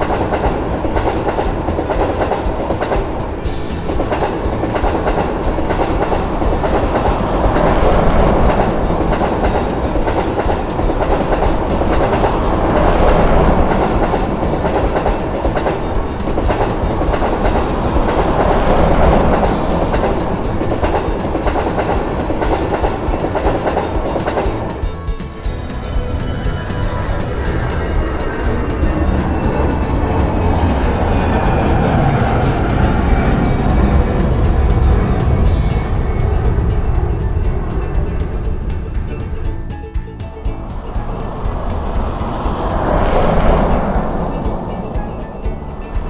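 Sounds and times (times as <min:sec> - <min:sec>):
train wheels clattering on track: 0:00.0 - 0:46.0.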